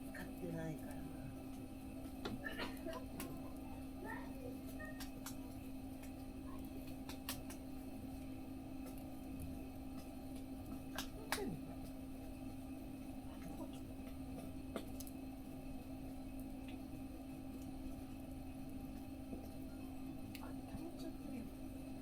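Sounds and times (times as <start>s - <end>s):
wood fire popping: 0.0s - 22.0s.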